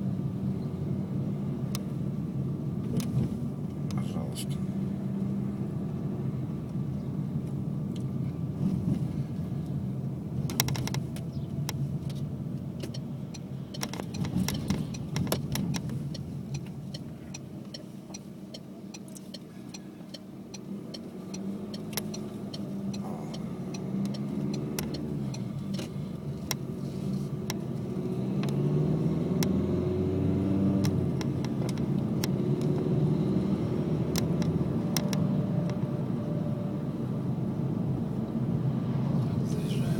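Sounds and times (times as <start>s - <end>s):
car engine running: 1.4s - 36.2s, 36.8s - 39.9s.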